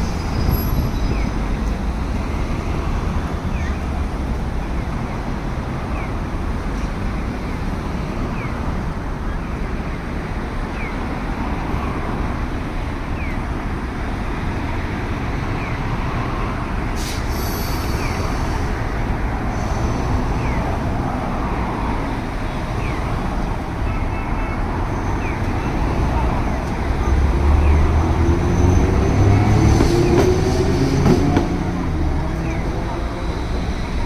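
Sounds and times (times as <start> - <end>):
street traffic noise: 0.0 - 34.0.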